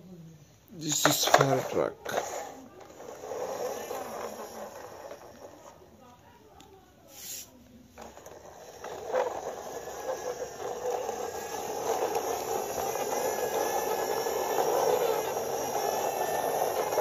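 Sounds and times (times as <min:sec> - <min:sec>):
toy truck wheels rolling on floor: 0:00.8 - 0:17.0.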